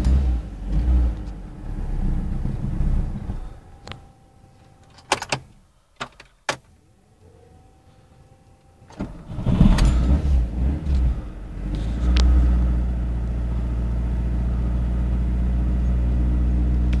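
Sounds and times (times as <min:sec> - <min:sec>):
car engine idling: 0:00.0 - 0:06.9, 0:07.8 - 0:17.0.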